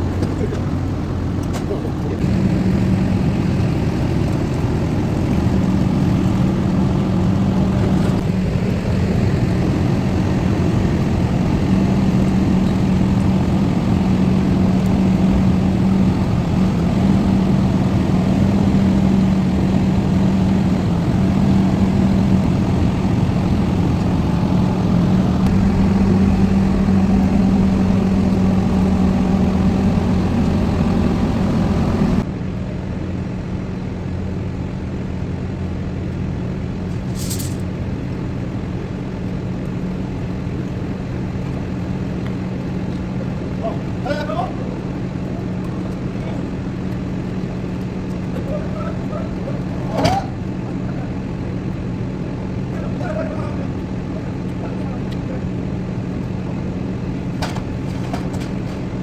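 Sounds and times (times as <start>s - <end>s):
constant low hum: 0.0s - 59.0s
heavy diesel engine running: 0.0s - 59.0s.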